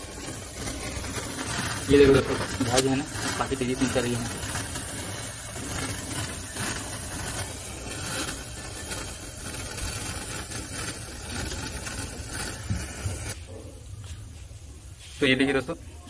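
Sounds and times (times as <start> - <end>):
gas hissing from pipe: 0.0 - 16.0.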